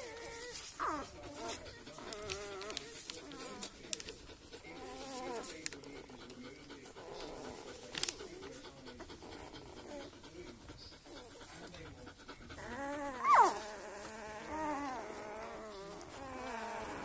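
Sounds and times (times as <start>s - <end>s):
puppies suckling clicks: 0.0s - 17.0s
puppies whining: 0.0s - 17.0s.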